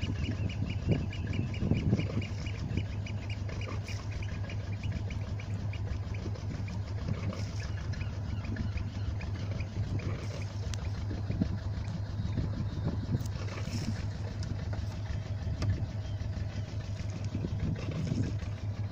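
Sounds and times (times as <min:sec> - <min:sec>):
marine diesel engine running: 0:00.0 - 0:18.9.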